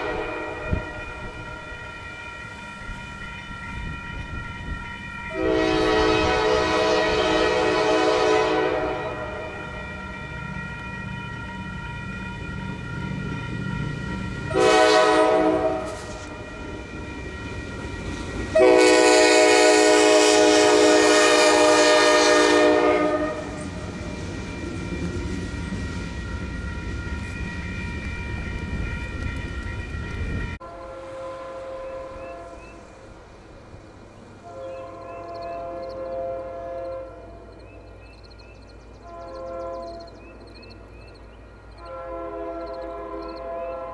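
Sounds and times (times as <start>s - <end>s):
locomotive air horn blasts: 0.0s - 33.0s, 34.4s - 37.5s, 39.0s - 40.3s, 41.8s - 43.9s
train rumbling: 0.0s - 43.9s.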